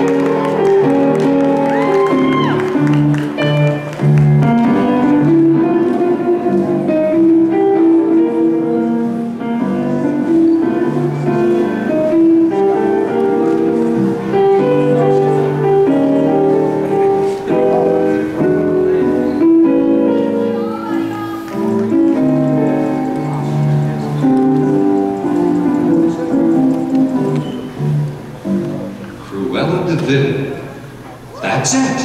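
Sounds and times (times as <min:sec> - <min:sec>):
instrumental music over loudspeakers: 0:00.0 - 0:32.0.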